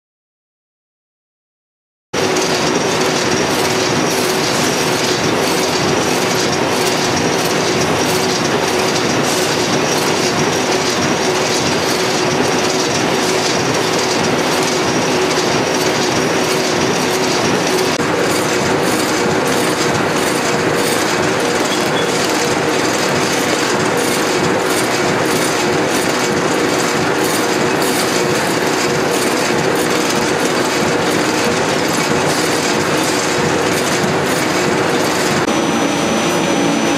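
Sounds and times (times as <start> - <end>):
rapid machine clicking and clattering: 2.2 - 35.5
box folding machine running: 2.2 - 36.9.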